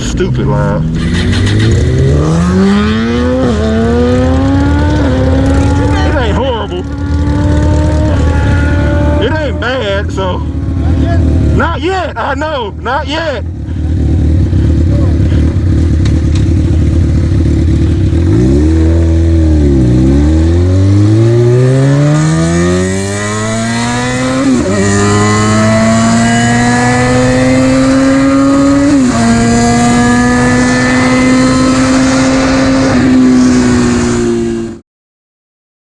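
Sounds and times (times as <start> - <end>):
motorcycle engine accelerating: 0.0 - 34.8.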